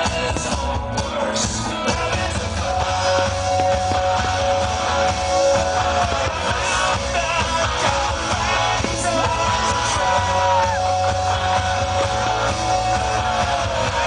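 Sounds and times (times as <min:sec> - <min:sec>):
rock music with singing: 0:00.0 - 0:14.0.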